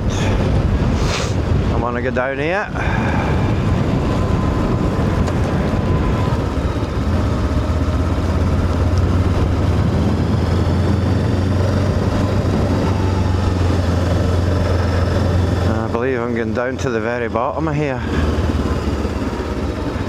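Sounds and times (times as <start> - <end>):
motorcycle engine running: 2.7 - 20.0.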